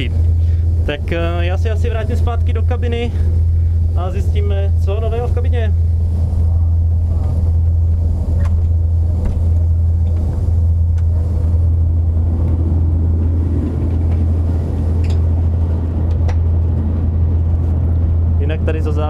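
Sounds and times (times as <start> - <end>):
turboprop cabin drone: 0.0 - 19.0.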